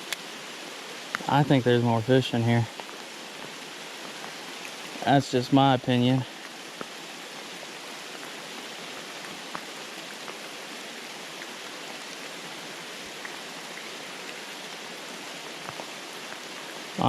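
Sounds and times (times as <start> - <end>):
running creek: 0.0 - 17.0
steady rain falling: 0.0 - 17.0.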